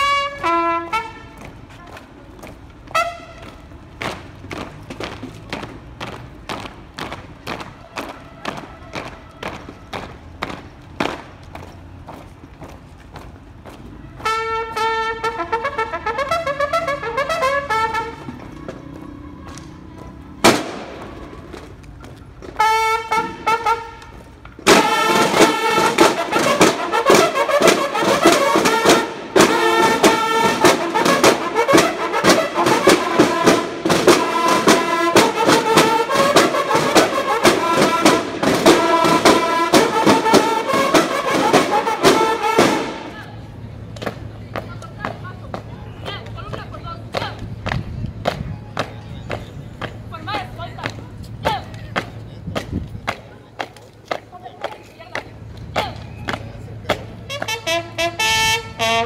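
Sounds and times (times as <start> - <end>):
bugles playing: 0.0 - 1.9, 2.8 - 12.8, 13.4 - 47.6, 55.2 - 59.0
bugles and drums playing march: 0.0 - 59.0.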